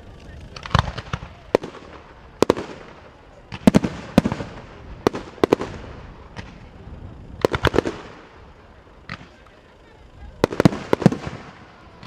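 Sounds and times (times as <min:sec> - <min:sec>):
fireworks bangs: 0:00.5 - 0:12.0.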